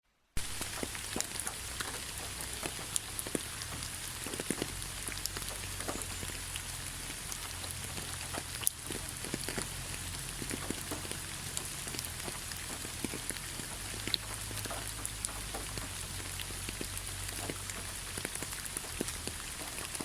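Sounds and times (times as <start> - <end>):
steady rain falling: 0.4 - 20.0.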